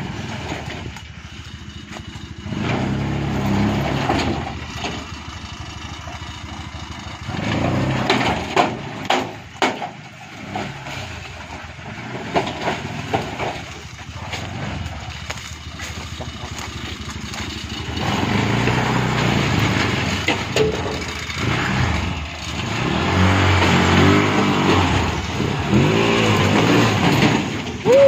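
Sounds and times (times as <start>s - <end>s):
petrol engine revving: 0.0s - 28.0s.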